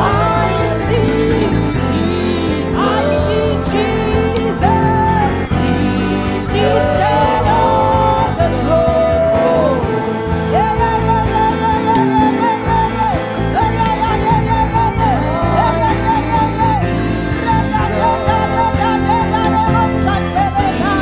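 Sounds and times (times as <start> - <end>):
gospel worship singing: 0.0 - 21.0
instrumental backing: 0.0 - 21.0.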